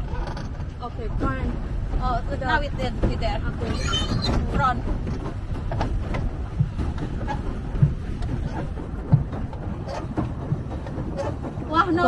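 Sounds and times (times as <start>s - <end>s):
harbour water: 0.0s - 12.0s
low rumble of wind: 0.0s - 12.0s
waves knocking on hull: 0.0s - 12.0s.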